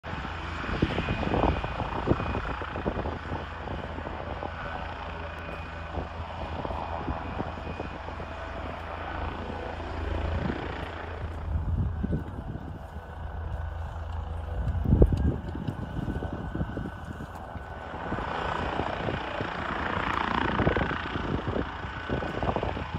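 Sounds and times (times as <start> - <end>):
helicopter rotor drone: 0.0 - 22.9.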